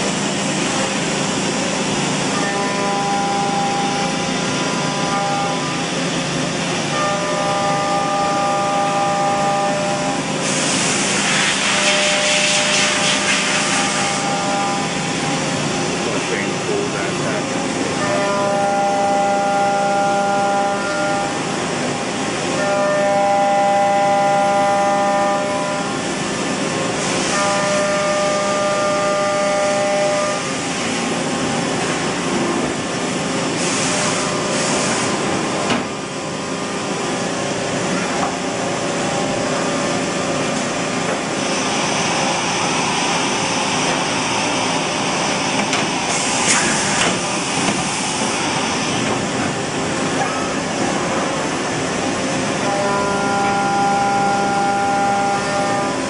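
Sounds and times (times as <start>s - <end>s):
machine whine: 0.0s - 56.0s.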